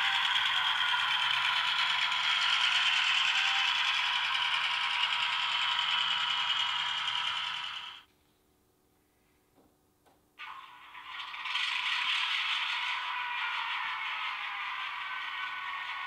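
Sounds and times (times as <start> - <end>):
model train running: 0.0 - 8.1, 10.4 - 16.0.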